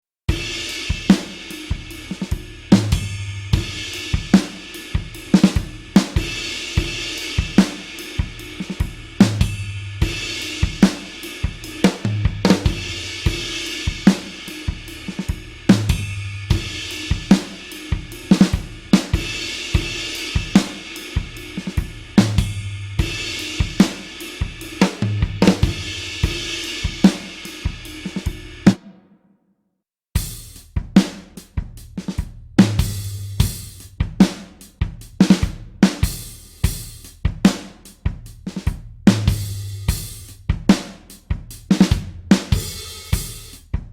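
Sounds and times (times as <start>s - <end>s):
rock drum kit beat: 0.3s - 29.0s, 30.2s - 43.9s.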